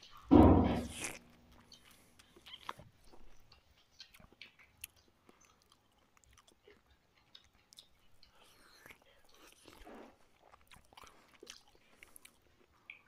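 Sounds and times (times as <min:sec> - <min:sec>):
faint chewing: 0:00.0 - 0:13.0
wet mouth clicks: 0:00.1 - 0:13.0.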